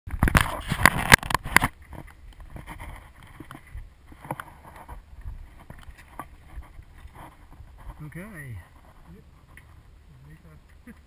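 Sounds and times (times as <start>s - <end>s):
wind rumble on microphone: 0.1s - 10.4s.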